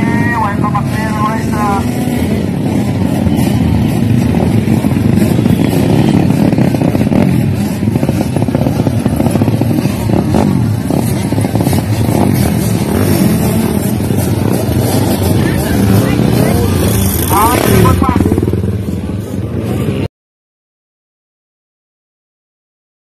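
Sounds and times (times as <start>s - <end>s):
dirt bike engines revving: 0.0s - 20.1s.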